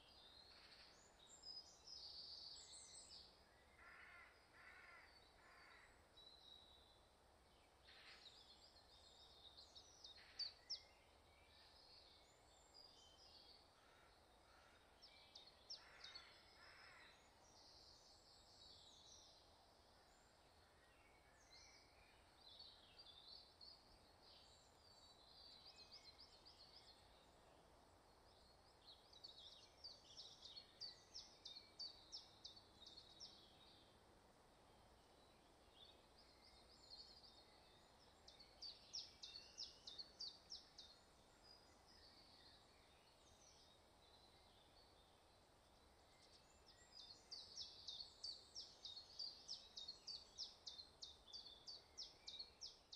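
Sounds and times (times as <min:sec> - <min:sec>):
faint background hiss: 0:00.0 - 0:52.9
faint songbird song: 0:00.0 - 0:52.9.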